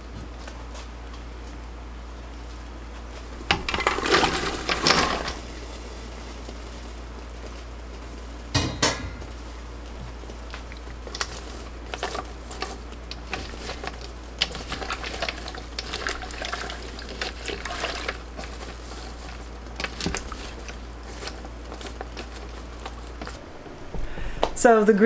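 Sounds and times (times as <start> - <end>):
beans stirred in brine: 2.4 - 8.5, 9.2 - 23.4.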